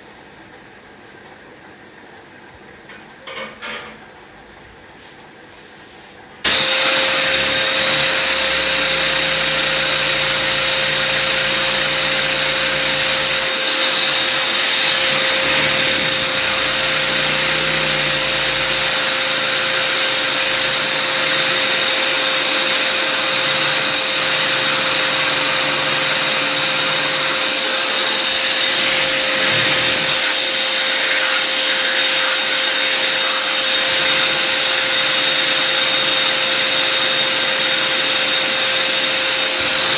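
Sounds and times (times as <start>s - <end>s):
small electric motor whirring: 6.5s - 39.9s.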